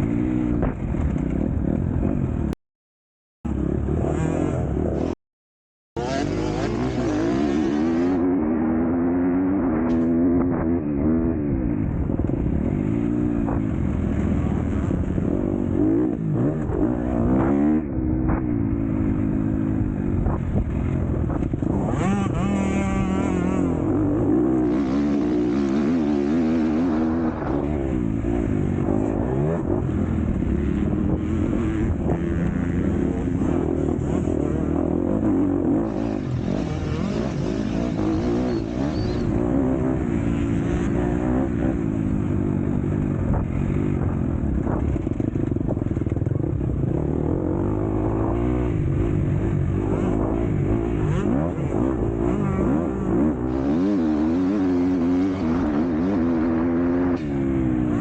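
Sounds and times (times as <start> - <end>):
motocross bike engine revving: 3.5 - 5.2, 6.0 - 45.3, 45.9 - 58.0.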